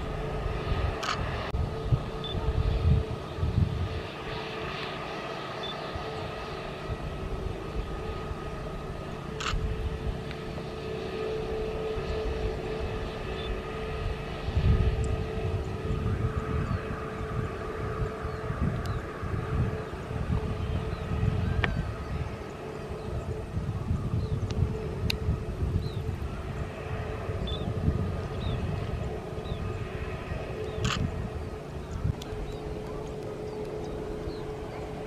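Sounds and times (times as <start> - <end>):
jet engines whining: 0.0 - 35.0
wind buffeting microphone: 0.0 - 35.0.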